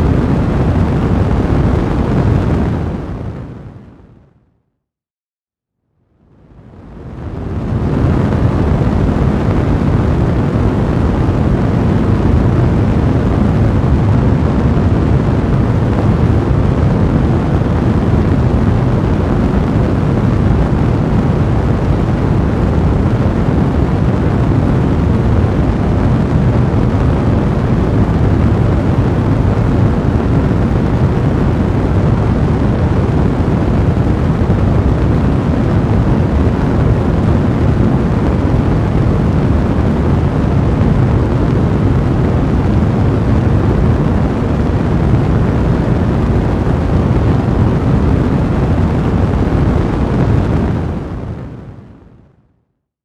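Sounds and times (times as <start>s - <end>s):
fire burning: 6.6s - 52.0s.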